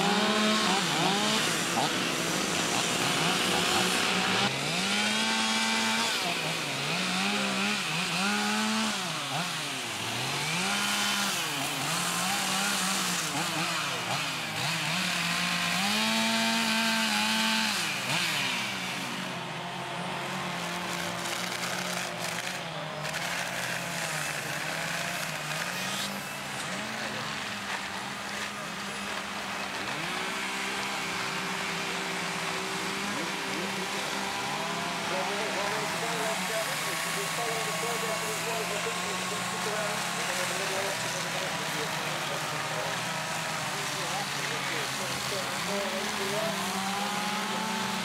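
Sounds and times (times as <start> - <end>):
chainsaws revving cutting wood: 0.0 - 48.0.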